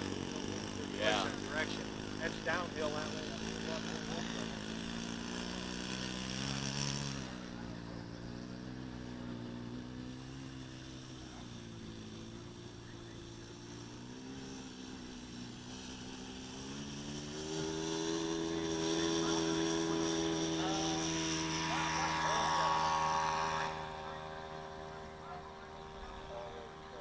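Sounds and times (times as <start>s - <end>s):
model airplane engine droning: 0.0s - 27.0s.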